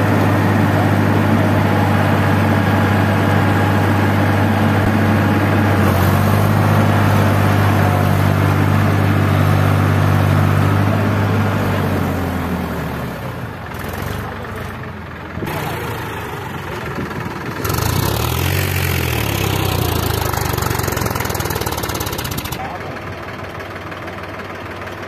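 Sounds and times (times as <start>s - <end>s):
tractor diesel engine running hard: 0.0s - 25.0s.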